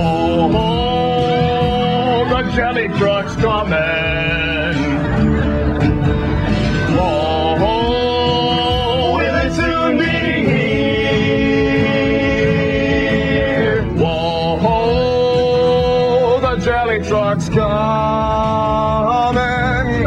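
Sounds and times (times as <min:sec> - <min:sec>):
instrumental backing: 0:00.0 - 0:20.0
voices singing long notes: 0:00.0 - 0:20.0.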